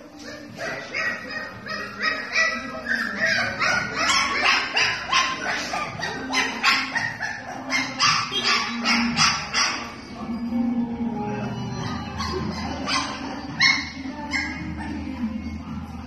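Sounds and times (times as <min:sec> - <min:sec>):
puppies yipping: 0:00.0 - 0:10.2, 0:11.8 - 0:15.3.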